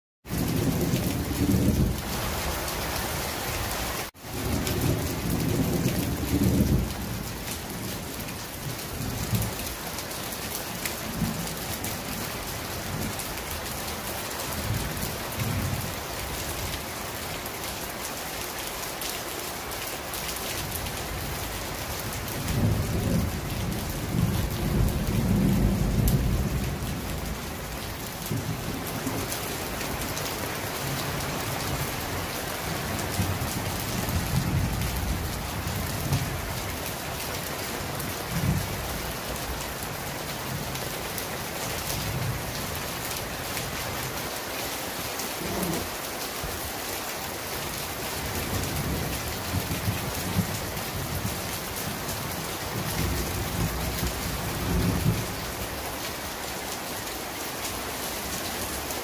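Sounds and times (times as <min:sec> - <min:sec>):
heavy rain pouring: 0:00.2 - 0:59.0.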